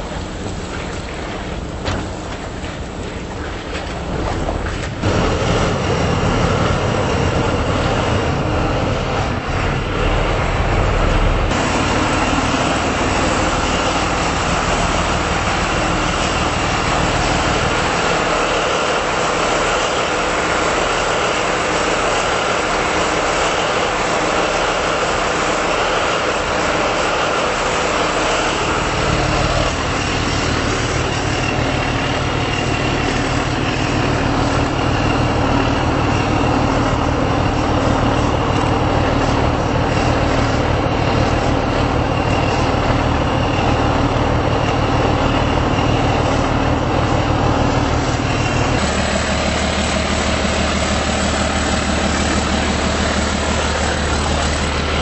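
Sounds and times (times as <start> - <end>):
ship engine machinery din: 0.0 - 55.0.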